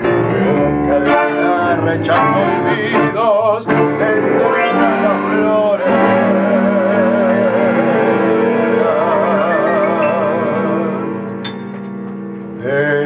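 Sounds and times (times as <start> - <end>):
man singing: 0.0 - 11.2, 12.6 - 13.0
tango band playing: 0.0 - 13.0.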